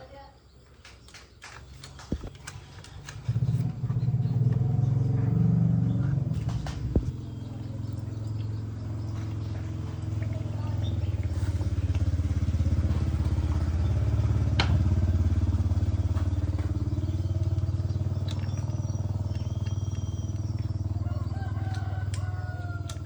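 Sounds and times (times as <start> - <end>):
truck engine running: 1.6 - 23.0.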